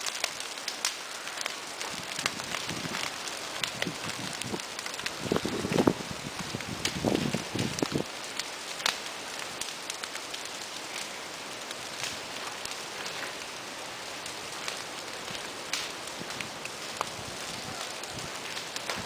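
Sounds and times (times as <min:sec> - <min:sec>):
fire crackling with pops: 0:00.0 - 0:19.0.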